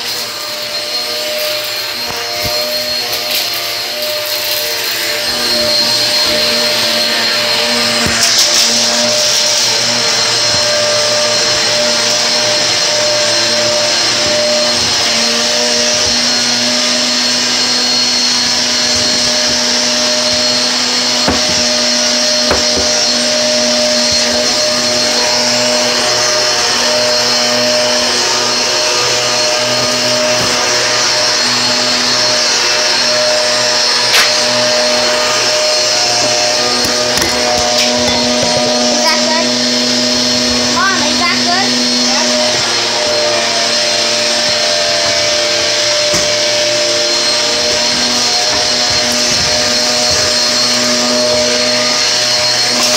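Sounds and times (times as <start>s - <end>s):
electric motor whining: 0.0s - 52.9s.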